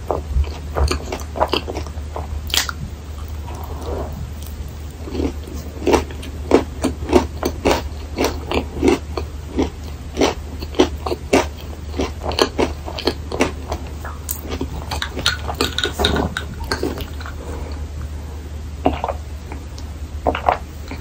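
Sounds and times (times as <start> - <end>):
person chewing crisp food: 0.0 - 18.2, 18.8 - 21.0.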